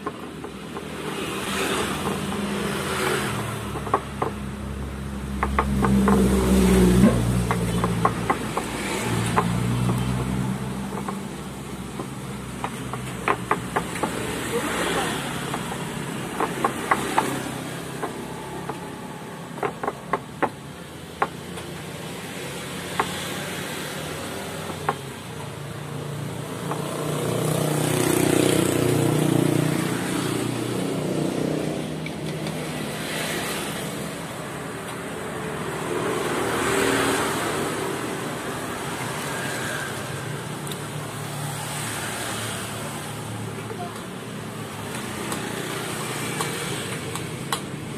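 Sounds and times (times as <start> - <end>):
road traffic: 0.0 - 47.9.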